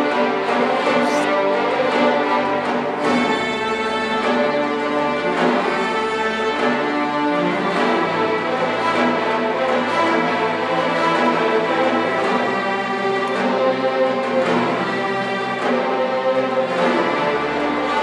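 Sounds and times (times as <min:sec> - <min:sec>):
orchestra playing classical music: 0:00.0 - 0:18.0.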